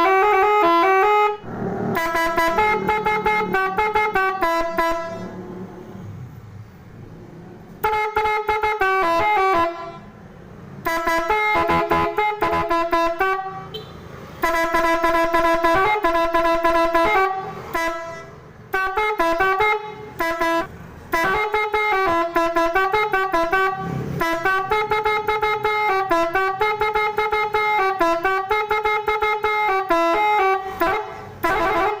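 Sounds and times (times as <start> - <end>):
bus horn playing fast melody: 0.0 - 5.5, 7.8 - 10.2, 10.8 - 32.0.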